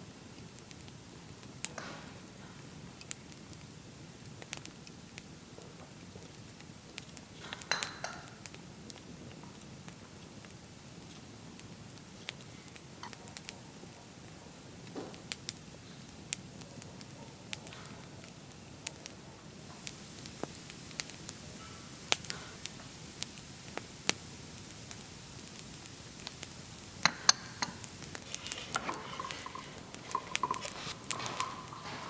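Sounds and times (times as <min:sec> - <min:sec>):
faint steady hiss: 0:00.0 - 0:32.0.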